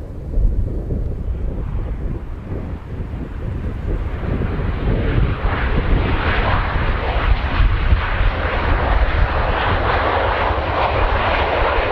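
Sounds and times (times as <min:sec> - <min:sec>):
jet engine of landing plane: 0:00.0 - 0:11.9
wind buffeting microphone: 0:00.0 - 0:11.9.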